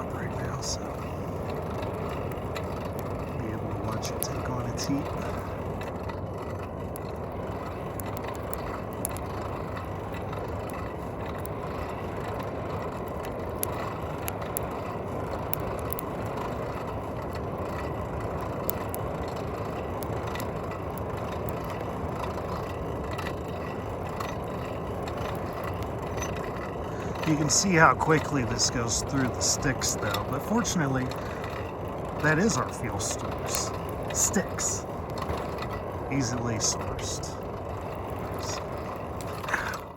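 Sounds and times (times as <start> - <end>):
burning sticks crackling: 0.0 - 39.9
forge fire rushing: 0.0 - 39.9.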